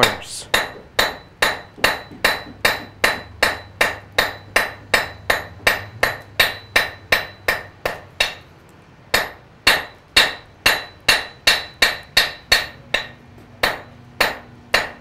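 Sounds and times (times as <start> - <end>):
hammer striking metal on anvil: 0.0 - 8.5, 9.1 - 15.0.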